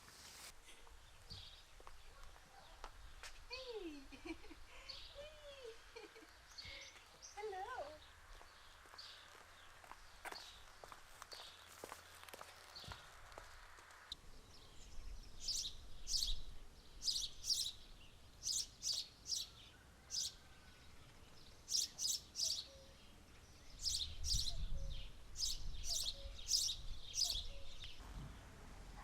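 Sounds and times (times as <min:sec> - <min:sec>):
songbird chirping: 0:00.8 - 0:29.0.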